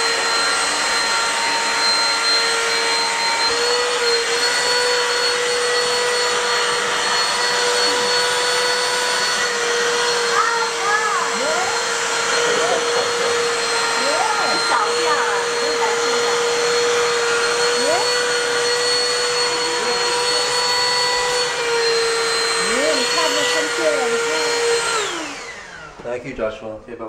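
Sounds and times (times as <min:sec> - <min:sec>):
handheld vacuum cleaner running: 0:00.0 - 0:26.5.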